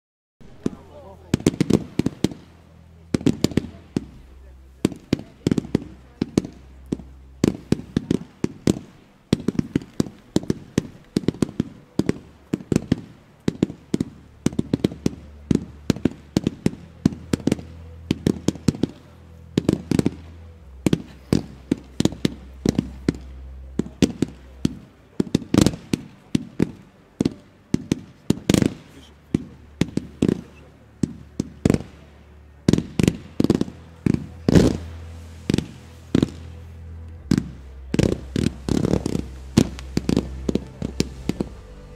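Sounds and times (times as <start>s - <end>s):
fireworks bangs: 0.4s - 41.9s.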